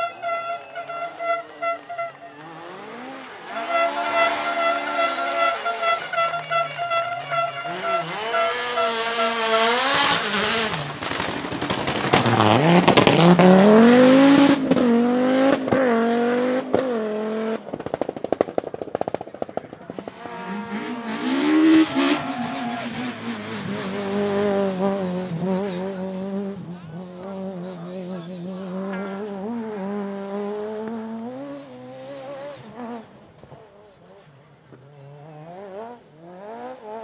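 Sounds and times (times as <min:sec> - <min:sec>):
exhaust popping and crackling: 0:00.0 - 0:30.1
rally car engine revving: 0:00.0 - 0:37.0.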